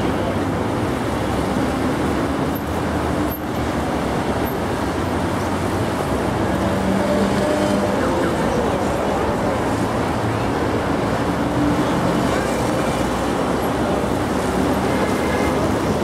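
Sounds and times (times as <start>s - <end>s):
crowd milling about: 0.0s - 16.0s
road traffic: 0.0s - 16.0s.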